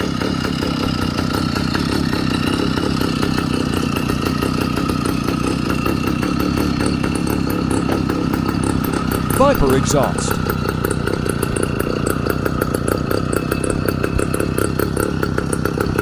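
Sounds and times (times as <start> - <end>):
two-stroke engine idling: 0.0 - 16.0.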